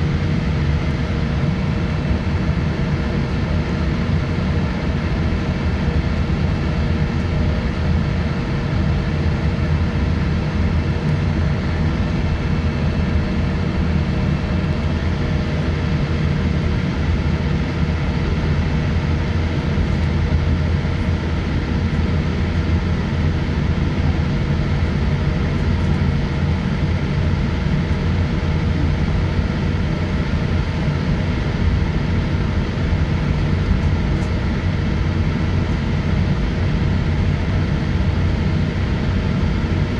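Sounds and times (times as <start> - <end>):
airliner cabin engine hum: 0.0 - 39.9.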